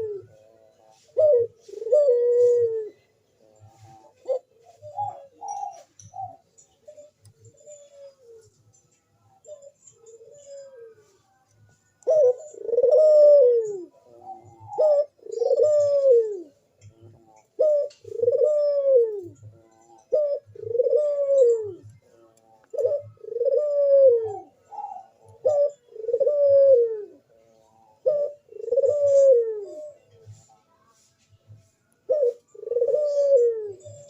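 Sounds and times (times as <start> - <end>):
dove cooing: 0.0 - 30.5, 32.0 - 34.0.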